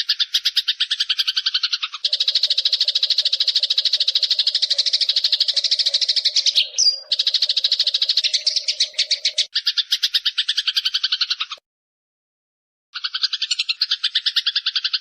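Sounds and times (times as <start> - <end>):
songbird trilling: 0.0 - 11.6, 13.0 - 15.0.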